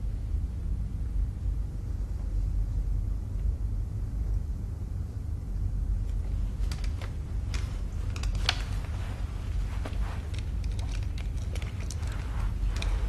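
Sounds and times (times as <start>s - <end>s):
low rumbling room tone: 0.0s - 13.0s.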